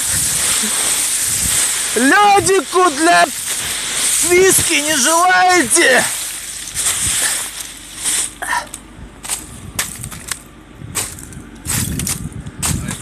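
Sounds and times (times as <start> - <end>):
ice and snow crunching and cracking: 0.0 - 10.4, 11.0 - 13.0.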